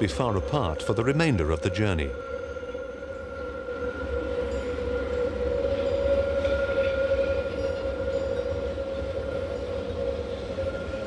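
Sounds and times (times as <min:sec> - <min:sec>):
electric train running: 0:00.0 - 0:11.0.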